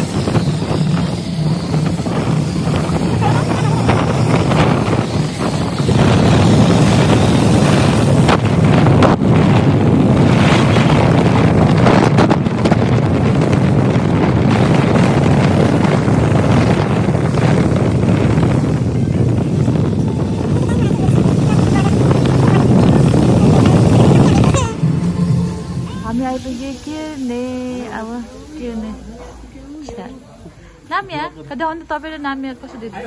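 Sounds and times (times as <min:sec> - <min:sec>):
wind buffeting microphone: 0:00.0 - 0:28.8
tyres hissing on wet road: 0:00.0 - 0:31.5
car road noise: 0:00.0 - 0:32.2.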